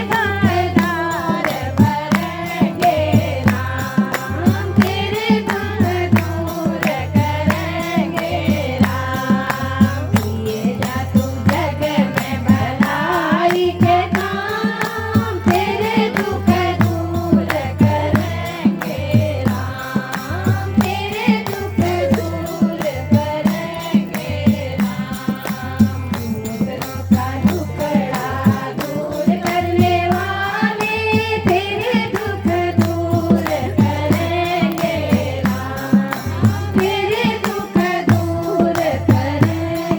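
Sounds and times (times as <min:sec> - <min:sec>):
fast hand-drum beat: 0:00.0 - 0:39.9
woman singing devotional song: 0:00.0 - 0:39.9.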